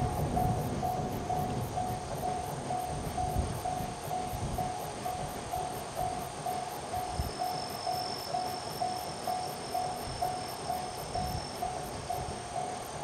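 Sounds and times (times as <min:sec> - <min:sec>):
thin high steady tone: 0:00.0 - 0:13.0.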